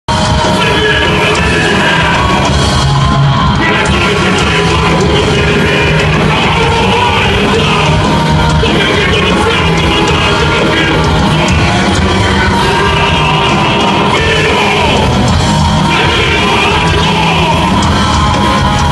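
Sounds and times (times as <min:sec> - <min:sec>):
live rock band playing: 0:00.1 - 0:18.9
singer yelling: 0:00.4 - 0:02.8, 0:03.4 - 0:18.9.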